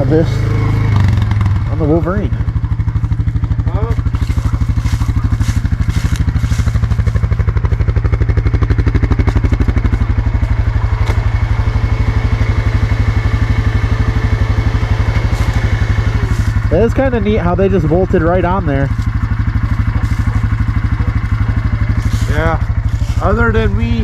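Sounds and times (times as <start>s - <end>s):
atv engine idling: 0.0s - 24.0s.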